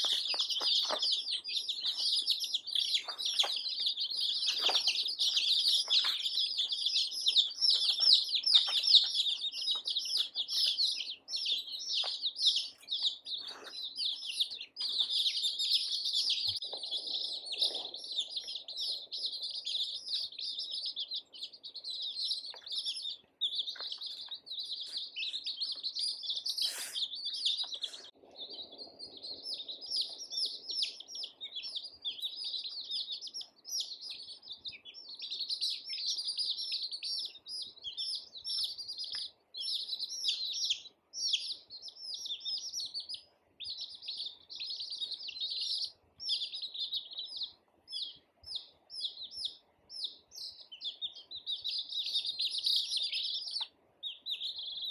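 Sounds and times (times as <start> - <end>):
baby chicks peeping: 0.0 - 54.9.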